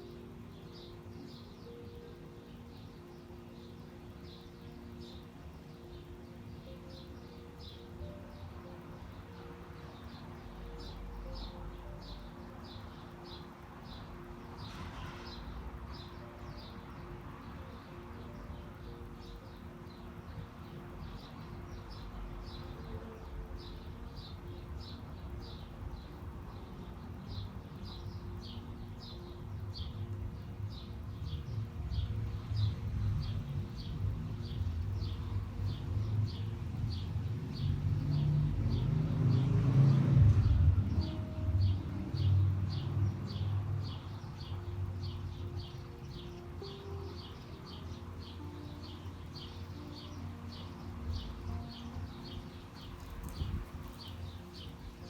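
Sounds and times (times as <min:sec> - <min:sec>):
low city hum: 0:00.0 - 0:55.0.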